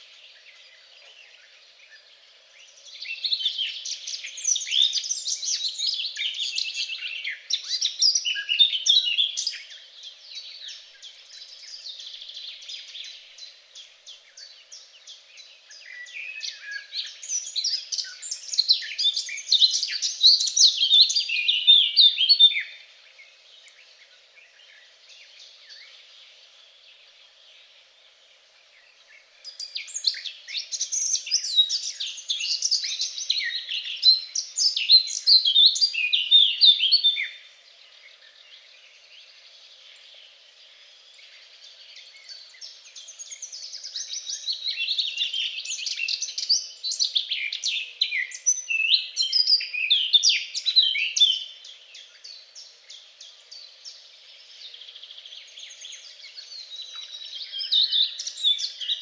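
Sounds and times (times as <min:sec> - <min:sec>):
songbird twittering: 0:00.0 - 0:59.0.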